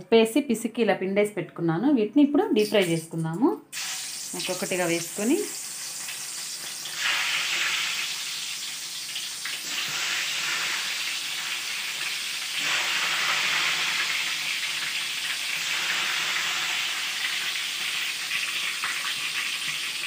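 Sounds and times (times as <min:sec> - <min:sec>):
vegetables sizzling in hot oil: 0:03.7 - 0:20.0.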